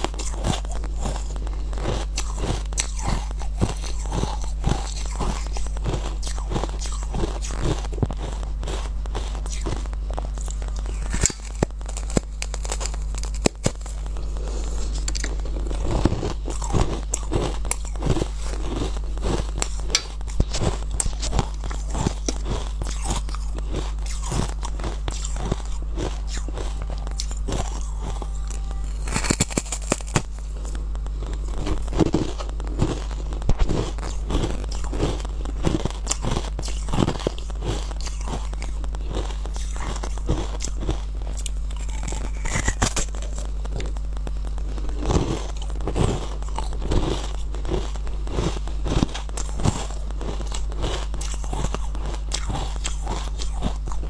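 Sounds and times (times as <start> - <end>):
crunching bites and chewing: 0.0 - 54.0
steady low hum: 0.0 - 54.0
ice cracking between teeth: 0.1 - 14.0, 14.9 - 44.0, 44.9 - 54.0.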